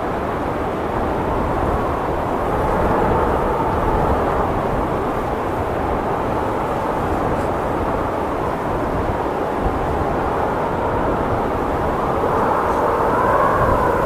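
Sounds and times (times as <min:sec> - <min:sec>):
blizzard wind blowing: 0:00.0 - 0:14.0.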